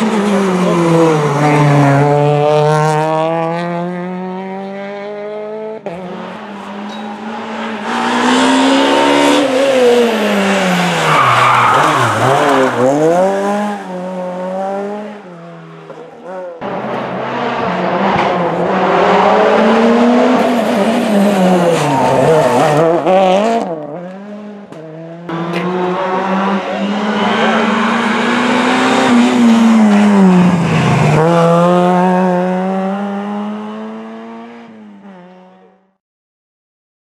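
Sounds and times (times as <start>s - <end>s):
rally car engine at full throttle: 0.0s - 35.9s.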